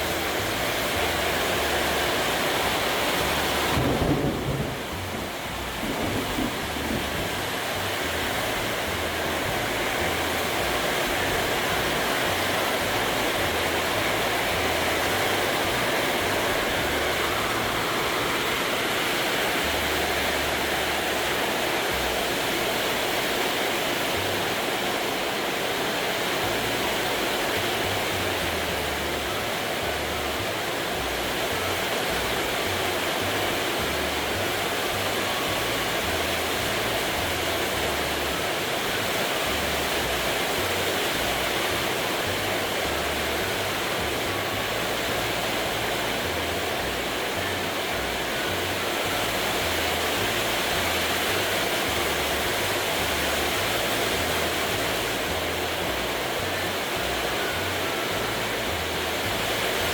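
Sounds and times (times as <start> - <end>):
low bass notes: 0.0 - 22.7, 26.4 - 59.9
steady rushing noise: 0.0 - 59.9.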